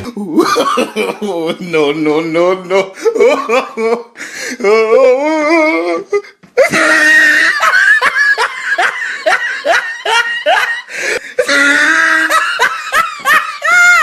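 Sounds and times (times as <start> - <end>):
person laughing loudly: 0.0 - 14.0.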